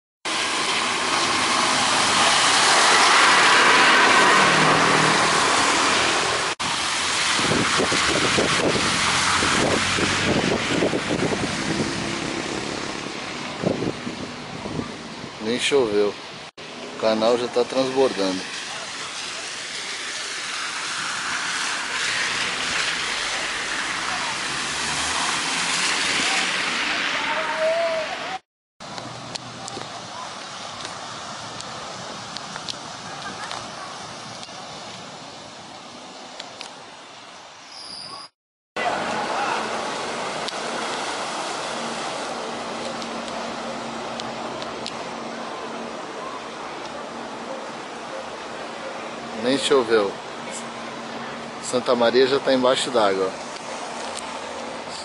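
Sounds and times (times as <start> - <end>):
van driving through water: 0.3 - 37.4, 38.8 - 55.0
tyres swishing through water: 0.3 - 55.0.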